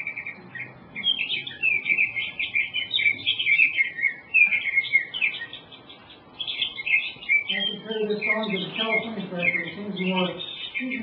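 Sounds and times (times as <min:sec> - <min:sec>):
bird song through loudspeakers: 0:00.0 - 0:11.0.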